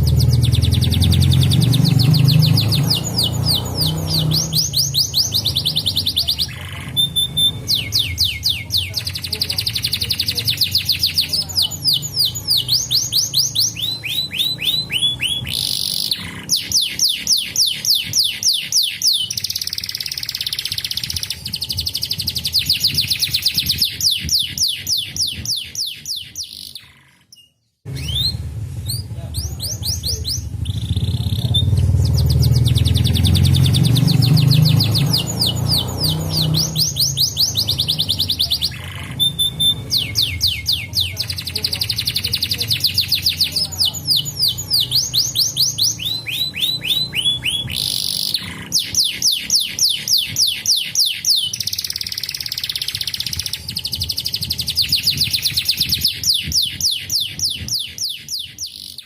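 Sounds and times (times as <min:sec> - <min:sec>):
canary singing in trills: 0:00.0 - 0:59.0.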